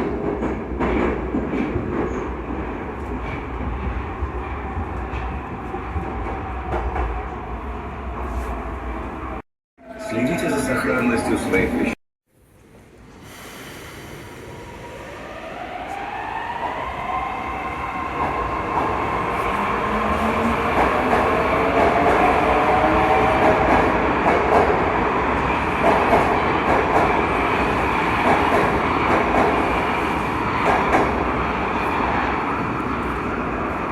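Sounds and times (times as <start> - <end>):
metro train traction whine: 0.0 - 12.0, 12.6 - 33.9.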